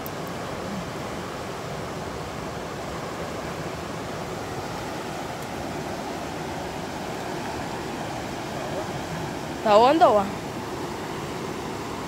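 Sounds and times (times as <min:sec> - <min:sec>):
river rushing through rapids: 0:00.0 - 0:12.0.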